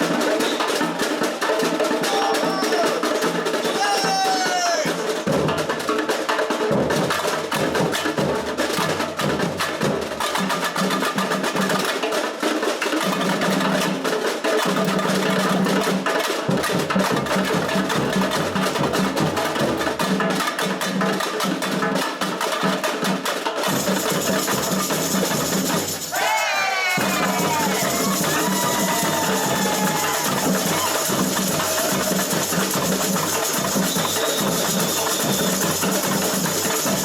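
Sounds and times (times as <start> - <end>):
samba drumming: 0.0 - 37.0.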